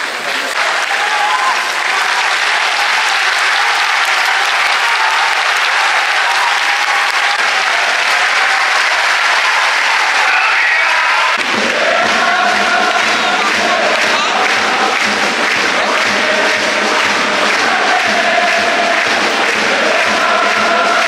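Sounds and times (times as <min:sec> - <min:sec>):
stadium crowd applauding: 0:00.0 - 0:21.0.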